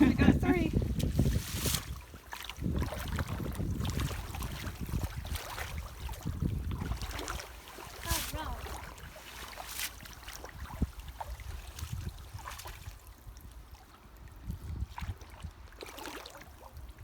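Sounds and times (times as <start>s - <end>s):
water splashing in a stream: 0.8s - 17.0s.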